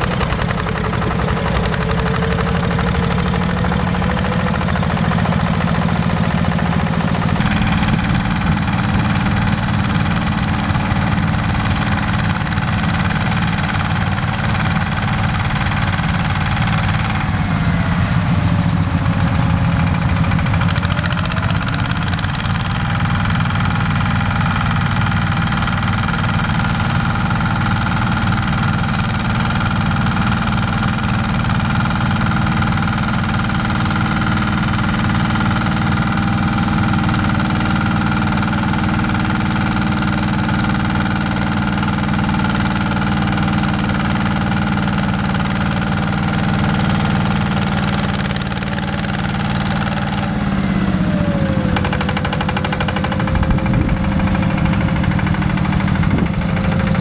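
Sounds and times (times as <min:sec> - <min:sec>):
diesel engine running: 0:00.0 - 0:57.0
rotary tiller churning soil: 0:00.0 - 0:57.0.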